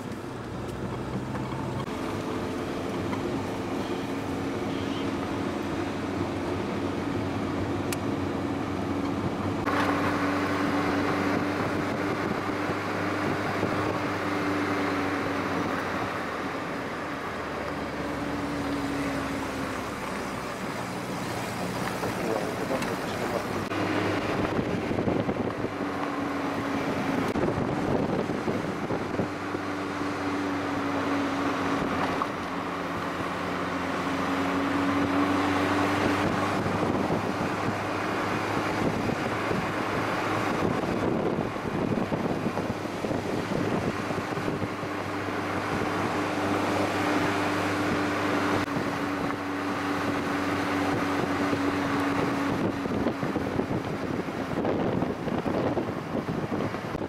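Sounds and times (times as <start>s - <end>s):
road noise: 0.0s - 57.0s
vehicle engine hum: 0.0s - 57.0s.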